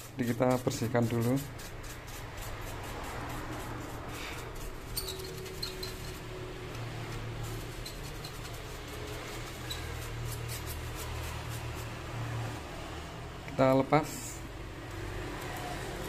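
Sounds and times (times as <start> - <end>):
brush scrubbing circuit board: 0.0 - 13.0.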